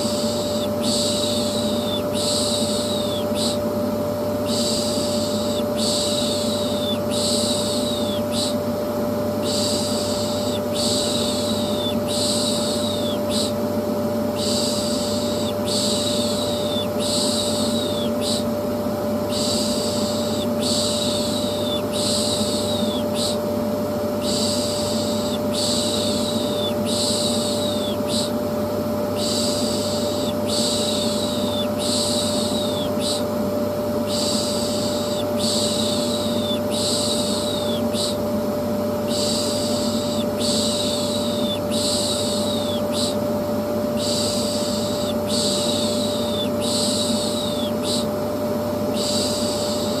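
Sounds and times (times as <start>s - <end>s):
vacuum cleaner humming: 0.0s - 50.0s.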